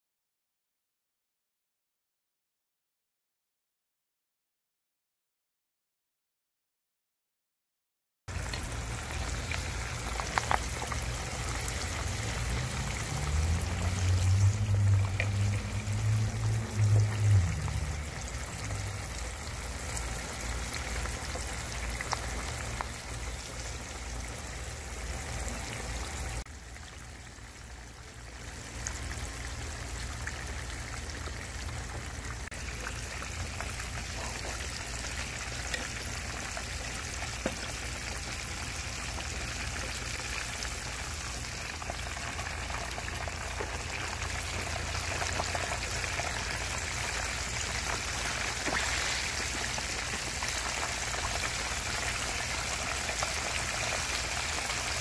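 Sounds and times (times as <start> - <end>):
fish sizzling in hot oil: 8.3 - 55.0
oil popping and crackling: 8.3 - 55.0.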